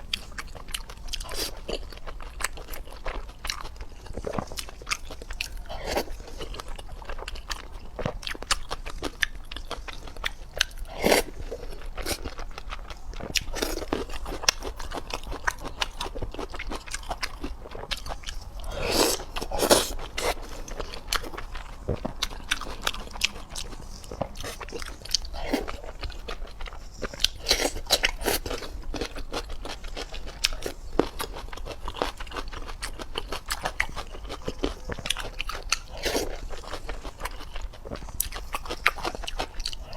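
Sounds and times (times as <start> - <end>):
crunchy chewing of food: 0.0 - 39.9.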